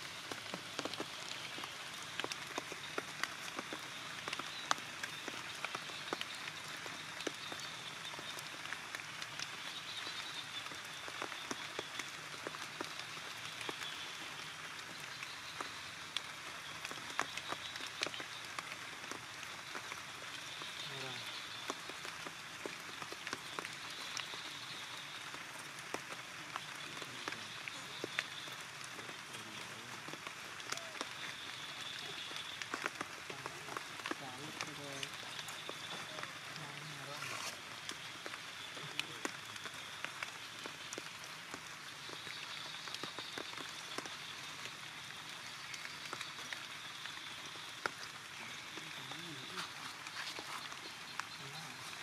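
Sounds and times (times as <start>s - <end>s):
drops tapping leaves and stone: 0.0s - 52.0s
steady rain falling: 0.0s - 52.0s.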